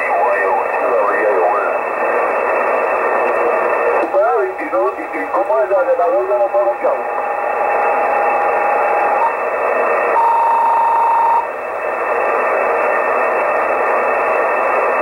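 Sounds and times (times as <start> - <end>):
radio hiss and static: 0.0 - 15.0
steady radio whistle: 0.0 - 15.0.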